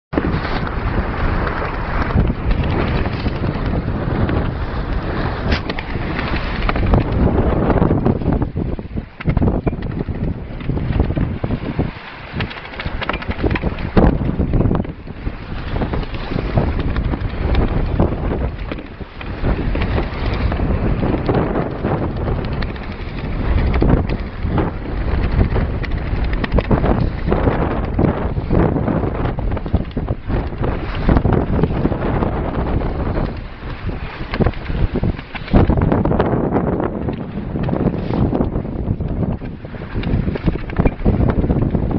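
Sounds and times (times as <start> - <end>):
wind buffeting microphone: 0.1 - 41.9.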